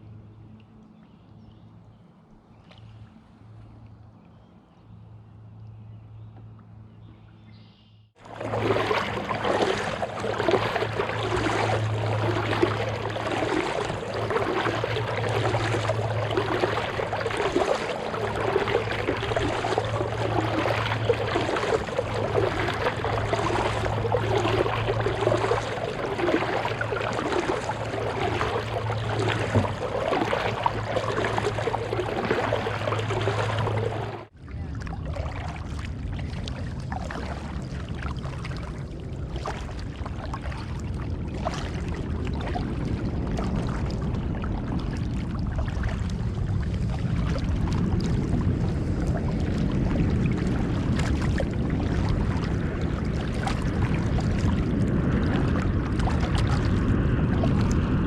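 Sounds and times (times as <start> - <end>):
low steady hum: 0.0 - 58.0
kayak paddle splashing: 8.2 - 58.0.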